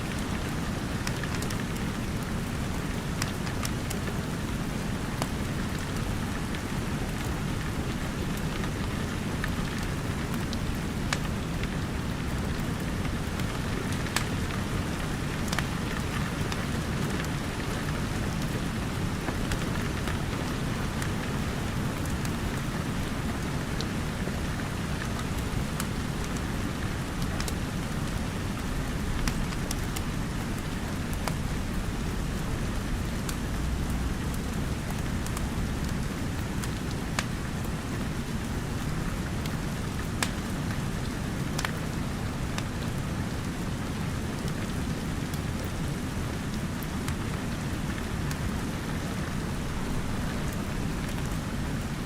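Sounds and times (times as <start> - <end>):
steady rain hissing: 0.0 - 52.0
wood fire crackling: 0.1 - 52.0.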